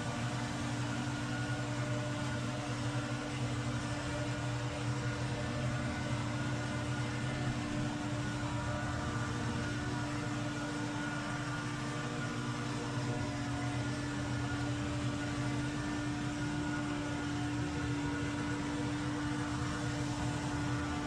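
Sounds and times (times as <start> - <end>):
power equipment engine running: 0.0 - 21.0.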